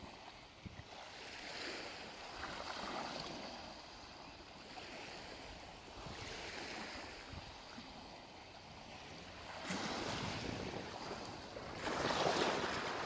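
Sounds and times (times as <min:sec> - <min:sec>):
waves washing onto shore: 0:00.0 - 0:13.0.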